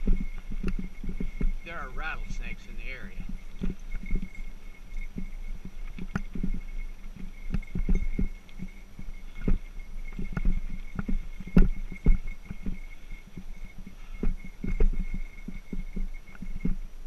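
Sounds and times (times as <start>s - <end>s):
bike wheels knocking on rocks: 0.0s - 17.0s.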